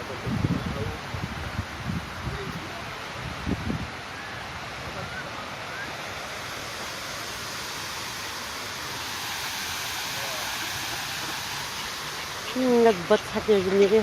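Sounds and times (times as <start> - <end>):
rushing hiss of outdoor noise: 0.0 - 14.0.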